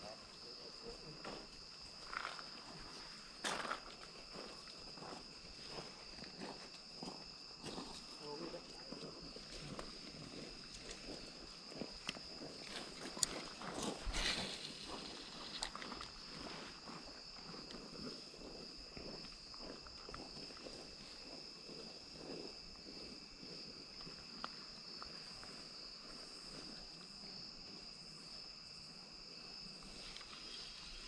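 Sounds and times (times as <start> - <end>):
insect chorus trilling: 0.0 - 31.0
faint rustling footsteps: 0.3 - 27.9.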